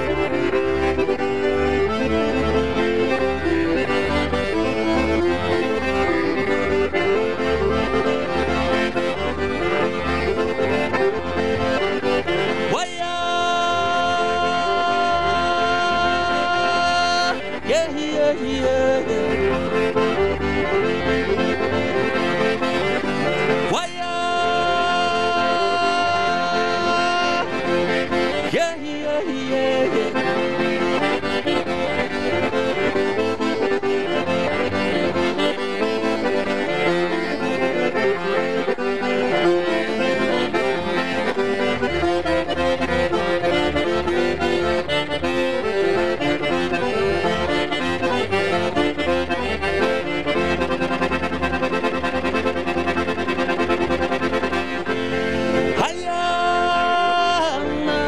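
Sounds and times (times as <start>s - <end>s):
button accordion playing fast tune: 0.0s - 58.0s.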